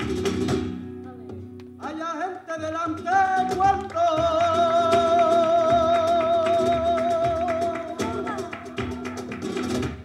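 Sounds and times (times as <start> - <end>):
flamenco guitar: 0.0 - 10.0
percussion: 0.0 - 10.0.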